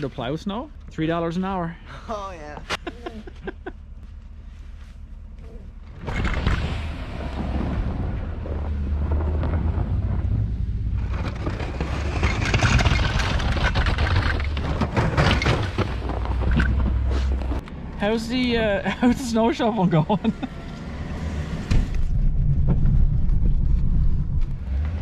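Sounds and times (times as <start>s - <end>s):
truck engine rumble: 0.0s - 25.0s.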